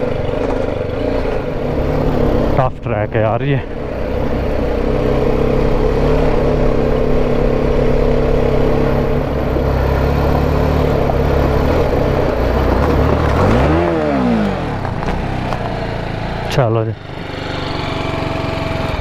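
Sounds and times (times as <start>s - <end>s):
motorcycle engine under load: 0.0s - 19.0s.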